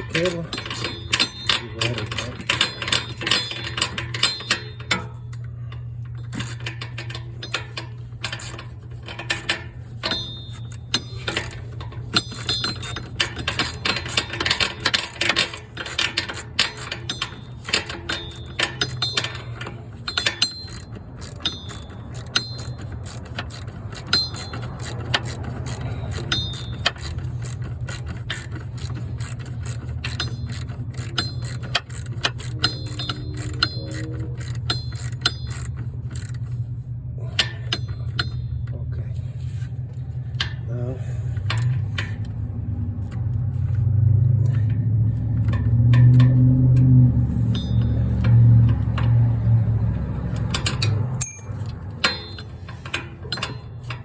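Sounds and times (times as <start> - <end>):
metal tools clinking on car parts: 0.0 - 54.0
steady low hum: 0.0 - 54.0.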